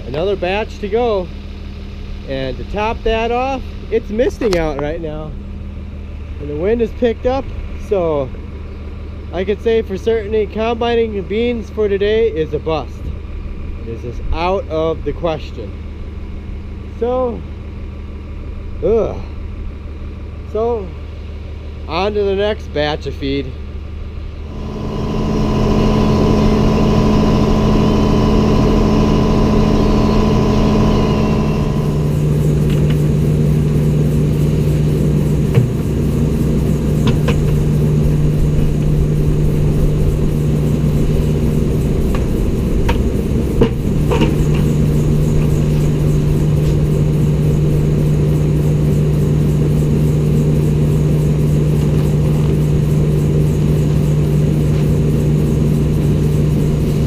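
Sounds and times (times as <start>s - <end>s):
feed grinder engine drone: 0.0s - 57.0s.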